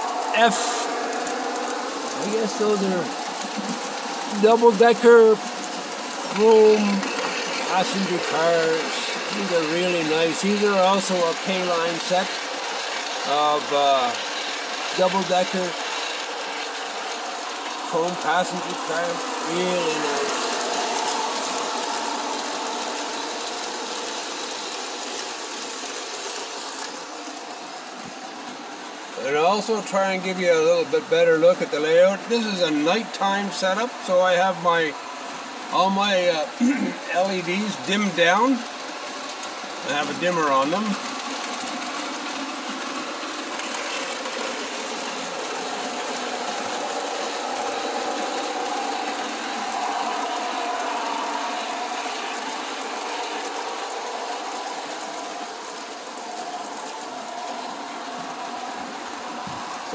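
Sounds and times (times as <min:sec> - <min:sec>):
faint motor whine: 0:00.0 - 0:59.9
model train motors whirring: 0:00.0 - 0:59.9
wheels clicking over track: 0:00.0 - 0:59.9.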